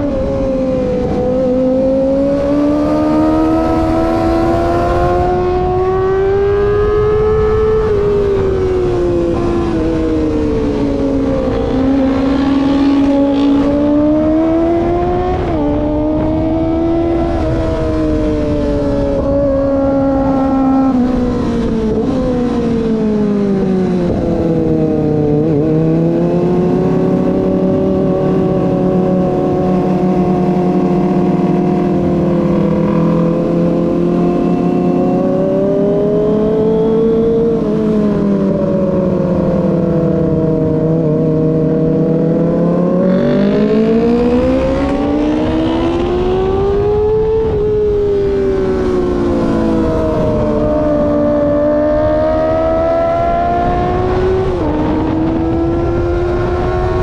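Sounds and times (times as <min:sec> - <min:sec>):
motorcycle engine under way: 0:00.0 - 0:57.0.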